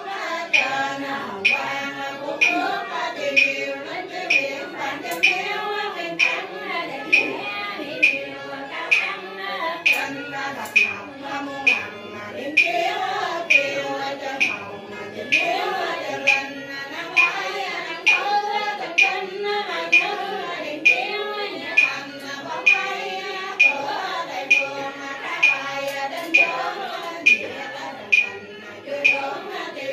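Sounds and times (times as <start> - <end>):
chanted prayer melody: 0.0 - 29.9
sharp percussion strikes: 0.1 - 29.9.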